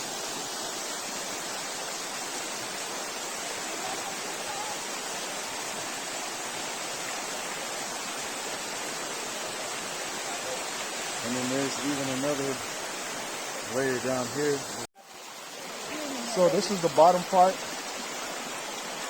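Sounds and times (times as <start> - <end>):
waterfall pouring over rocks: 0.0 - 19.0.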